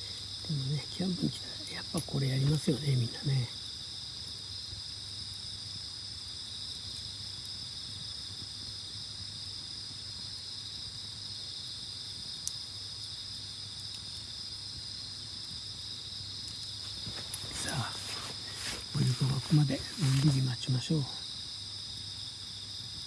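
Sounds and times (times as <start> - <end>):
insect chorus trilling: 0.0 - 23.0.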